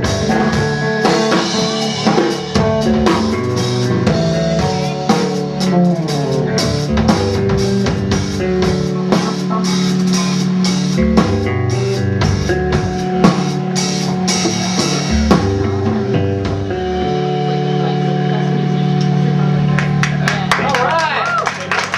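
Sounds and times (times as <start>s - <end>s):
drum kit steady beat: 0.0s - 18.6s
bass guitar: 0.0s - 21.9s
electric guitar: 0.0s - 21.9s.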